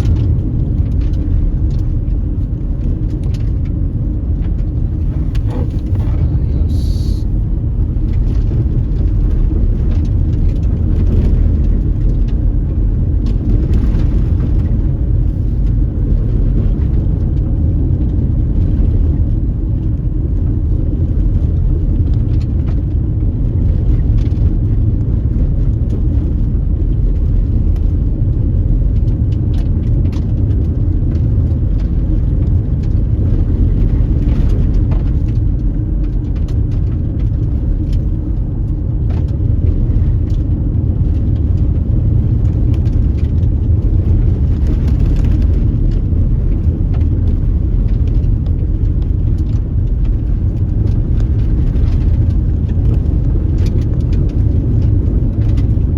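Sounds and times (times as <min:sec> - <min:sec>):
car rumbling on unpaved road: 0:00.0 - 0:55.9.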